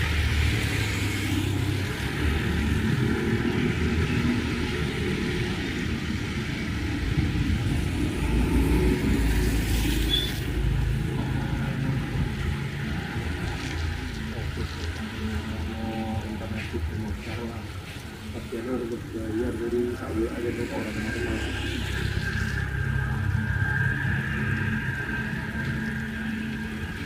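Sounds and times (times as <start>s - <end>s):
faint hiss of rain: 0.0s - 27.0s.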